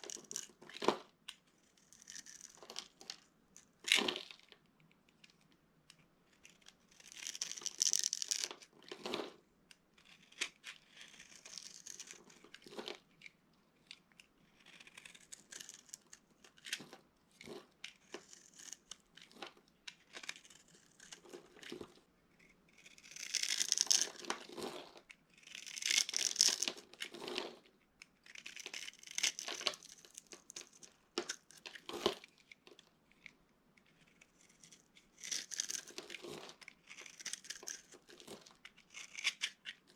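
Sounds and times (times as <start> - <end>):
dry soap crackling and crunching: 0.0 - 9.4, 10.0 - 39.9.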